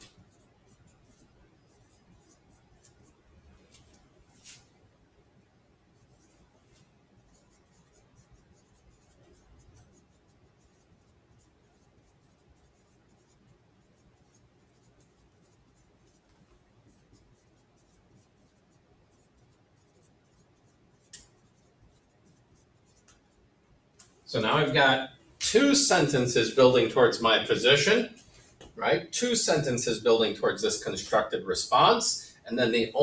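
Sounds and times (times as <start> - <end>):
marker writing on a whiteboard: 0.0 - 4.8, 5.9 - 33.0.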